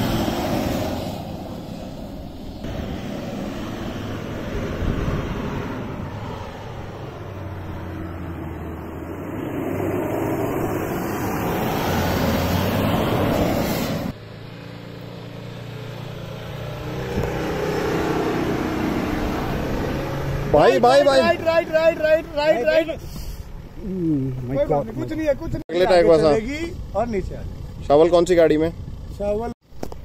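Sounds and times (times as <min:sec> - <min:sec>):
diesel engine revving: 0:00.0 - 0:29.6.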